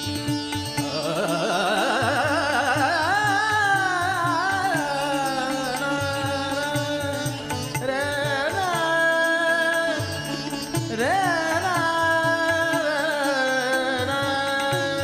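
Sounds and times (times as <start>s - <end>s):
person singing ornamented melody: 0.0s - 15.0s.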